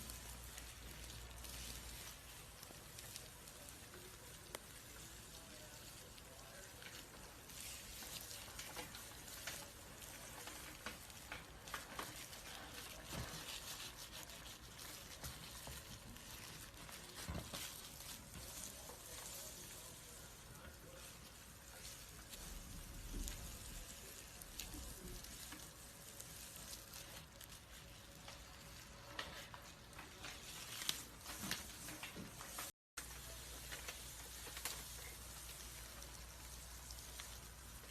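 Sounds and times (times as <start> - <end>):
snake skin crackling and rustling: 0.0 - 37.9.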